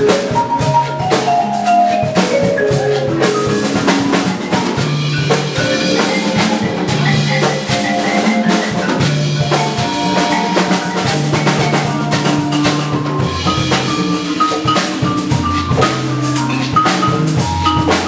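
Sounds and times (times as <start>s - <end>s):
marimba and vibraphone jazz: 0.0s - 18.0s.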